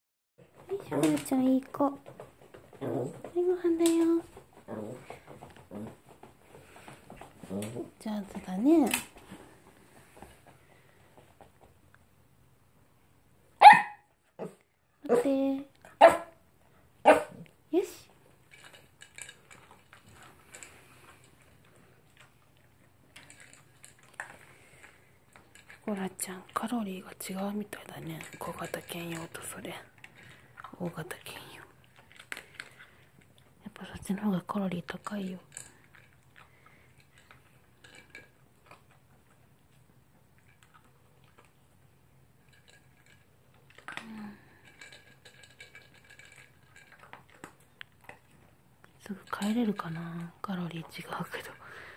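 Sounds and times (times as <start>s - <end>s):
dog crunching kibble: 0.4s - 11.7s, 17.1s - 51.9s.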